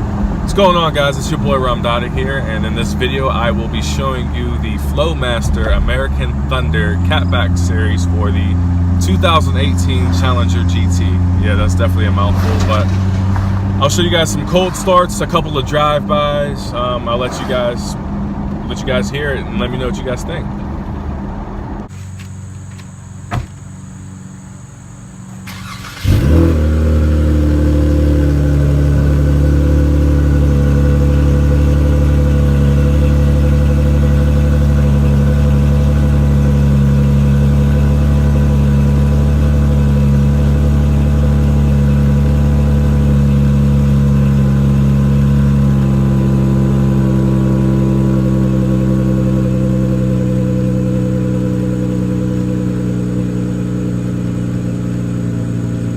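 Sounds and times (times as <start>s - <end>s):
car engine starting and idling: 0.0s - 55.9s.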